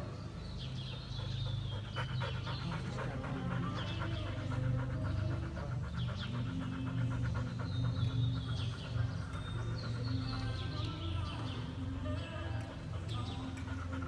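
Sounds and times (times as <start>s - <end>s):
low arena hum: 0.0s - 14.0s.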